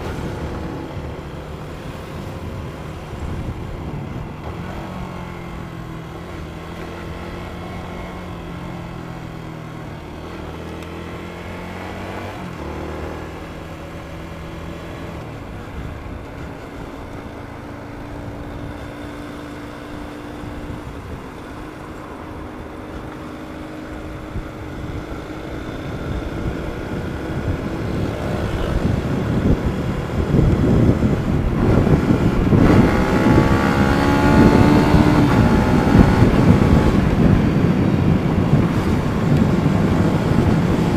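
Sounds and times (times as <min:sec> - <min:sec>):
motorcycle engine riding: 0:00.0 - 0:40.9
wind noise: 0:00.0 - 0:40.9.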